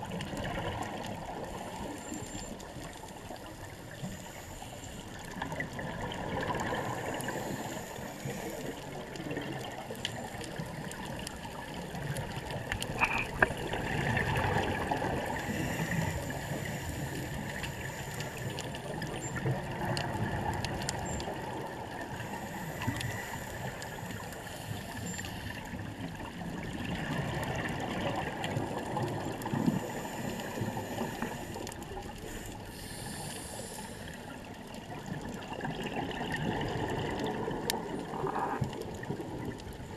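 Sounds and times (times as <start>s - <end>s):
scuba exhaust bubbles: 0.0s - 39.9s
underwater water noise: 0.0s - 39.9s.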